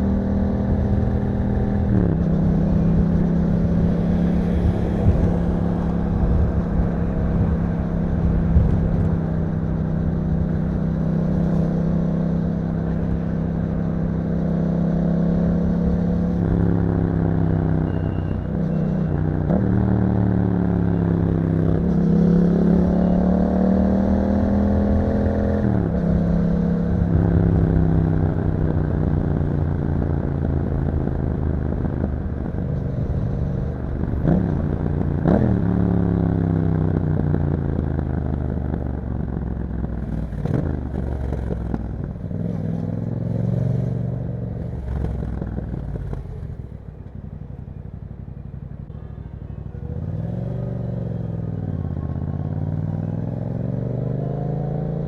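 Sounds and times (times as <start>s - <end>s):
motorcycle engine revving: 0.0s - 49.0s, 49.6s - 55.0s.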